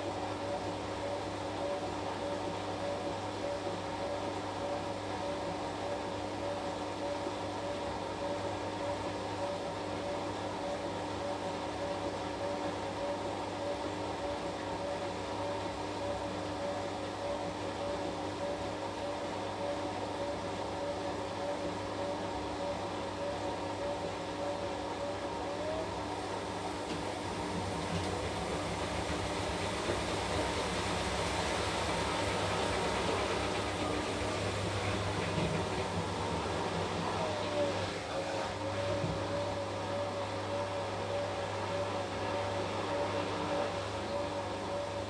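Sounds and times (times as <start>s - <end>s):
washing machine running: 0.0s - 45.0s.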